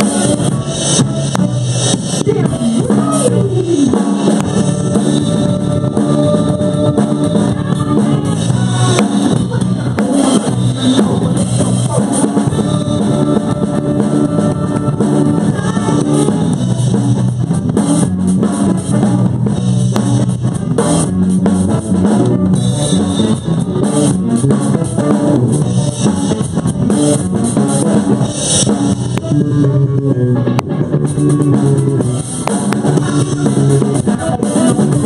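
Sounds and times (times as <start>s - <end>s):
drum kit beat: 0.0s - 35.0s
electric guitar: 0.0s - 35.0s
live rock band playing: 0.0s - 35.0s.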